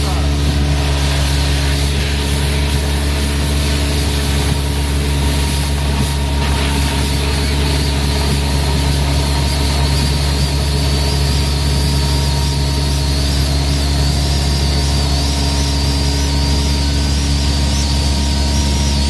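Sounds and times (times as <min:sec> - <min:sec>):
deep engine drone: 0:00.0 - 0:19.0
thin high whine: 0:00.0 - 0:19.0.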